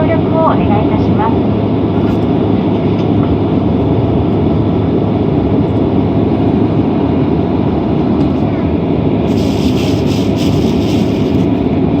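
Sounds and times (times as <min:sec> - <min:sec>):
aircraft rolling on taxiway: 0:00.0 - 0:12.0
jet engines idling: 0:00.0 - 0:12.0.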